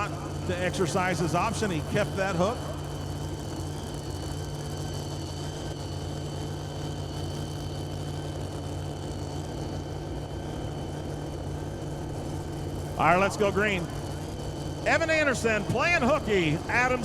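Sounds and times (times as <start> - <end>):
high whine: 0.0 - 17.0
truck engine idling: 0.0 - 17.0.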